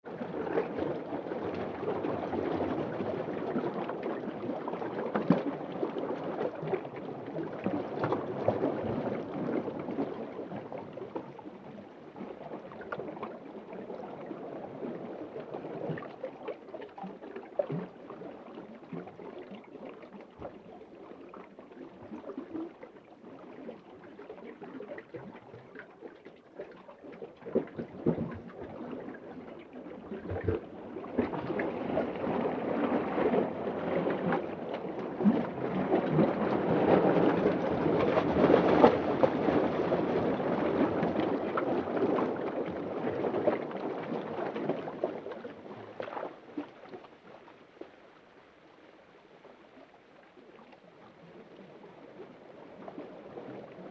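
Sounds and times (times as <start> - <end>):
underwater bubbling and gurgling: 0.0 - 53.9.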